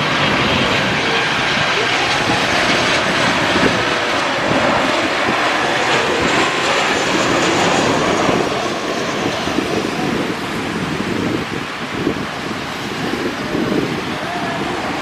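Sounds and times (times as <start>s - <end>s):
jet engine rush: 0.0s - 15.0s.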